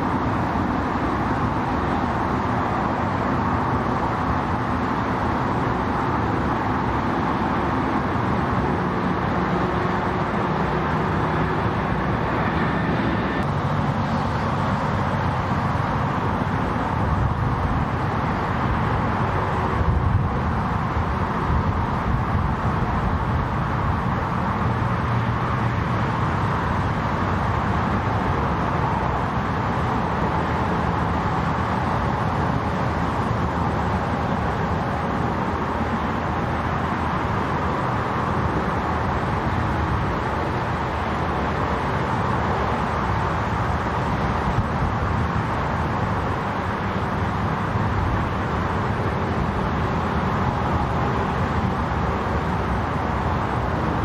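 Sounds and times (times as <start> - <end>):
vehicle engines rumbling: 0.0 - 54.0.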